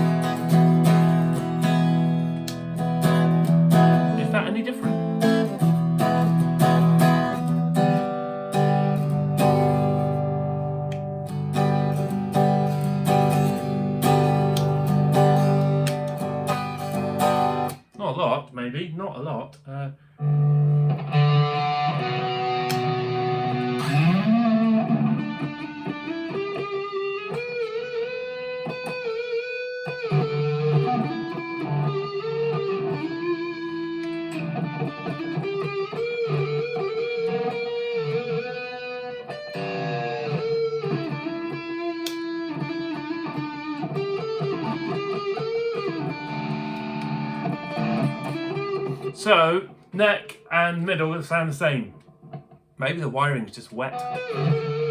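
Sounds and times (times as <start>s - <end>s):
electric guitar single-note lines: 0.0s - 17.8s, 20.2s - 50.4s, 53.7s - 54.9s.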